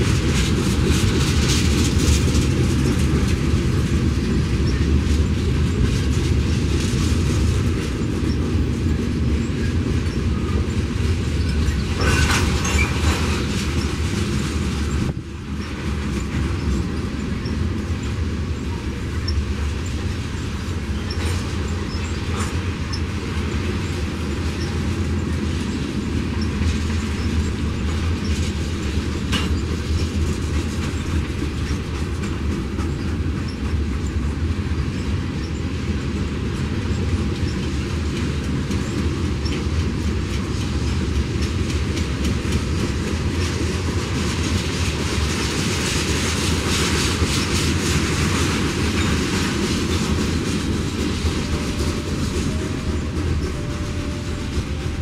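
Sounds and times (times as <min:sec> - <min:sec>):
freight train rumbling: 0:00.0 - 0:55.0
wheels clicking over rail joints: 0:00.0 - 0:55.0.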